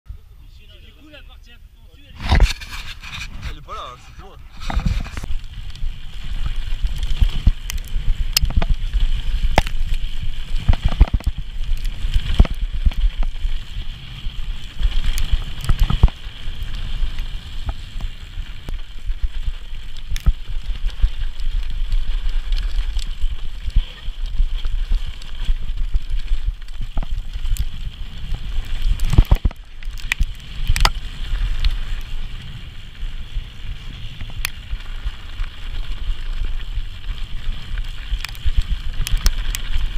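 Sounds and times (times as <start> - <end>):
bike tyre noise: 1.9 - 39.9
wind rumble on microphone: 1.9 - 39.9.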